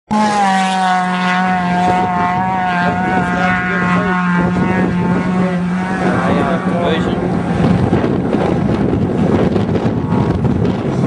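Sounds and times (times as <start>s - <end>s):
buggy engine droning at high revs: 0.1s - 11.0s.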